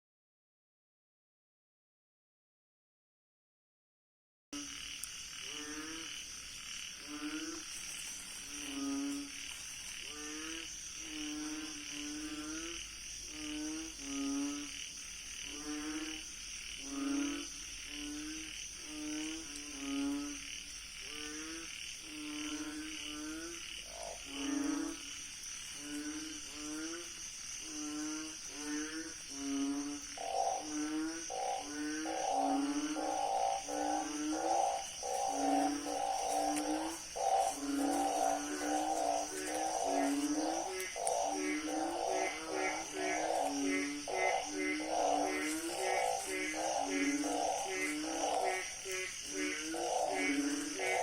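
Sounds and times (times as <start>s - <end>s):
frog croaking: 4.6s - 51.0s
night insects chorus: 4.6s - 51.0s.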